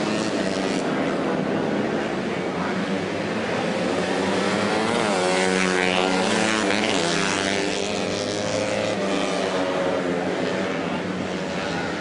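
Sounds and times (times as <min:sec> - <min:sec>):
racing motorcycles revving past: 0:00.0 - 0:01.9, 0:02.6 - 0:12.0.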